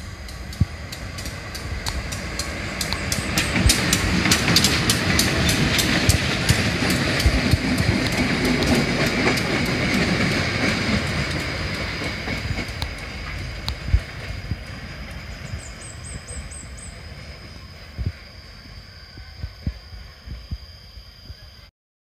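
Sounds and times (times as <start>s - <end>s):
wheels clicking over rail joints: 0.0s - 18.2s
train rolling past: 0.0s - 21.6s.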